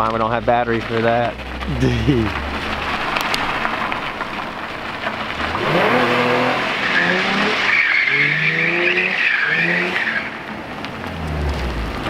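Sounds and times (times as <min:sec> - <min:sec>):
tires squealing: 0:00.0 - 0:12.0
car engine revving: 0:00.3 - 0:12.0.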